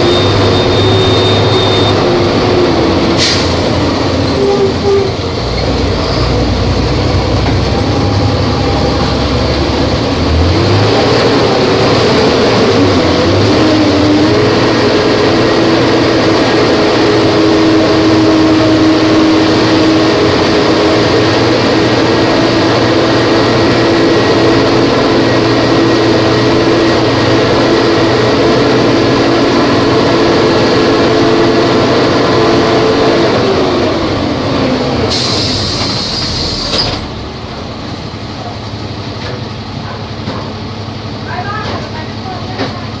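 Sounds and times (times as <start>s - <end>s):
bus diesel engine: 0.0s - 43.0s.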